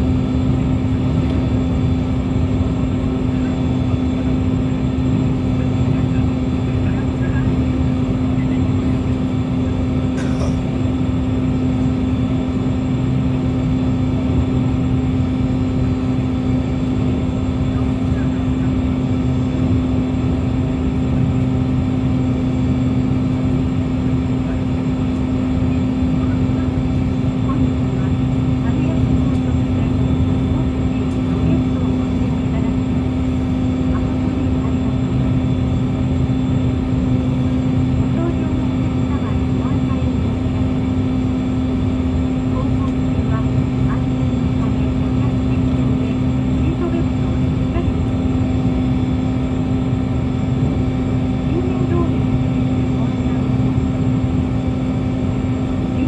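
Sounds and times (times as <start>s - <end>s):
gas turbines humming: 0.0s - 56.0s.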